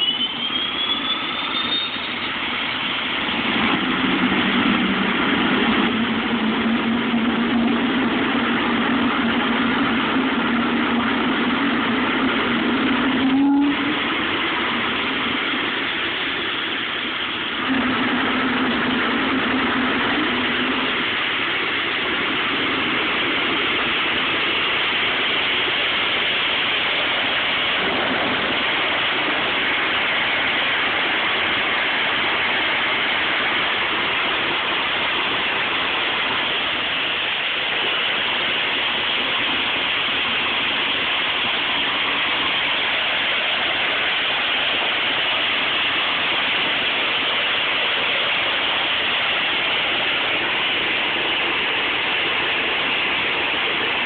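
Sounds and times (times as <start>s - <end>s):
turbojet engine idling: 0.0s - 54.0s.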